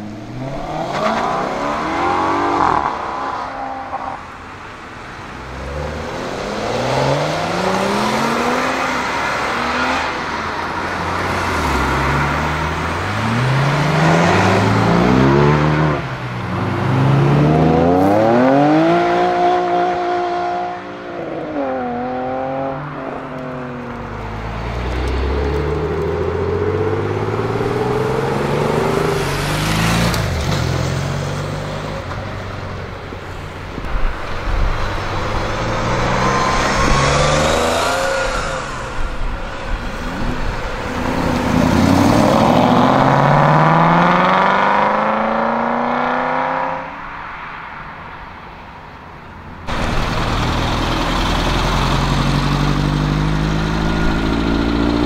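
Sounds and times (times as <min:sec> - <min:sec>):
sports cars accelerating hard: 0:00.0 - 0:04.6, 0:05.3 - 0:32.2, 0:34.1 - 0:47.1.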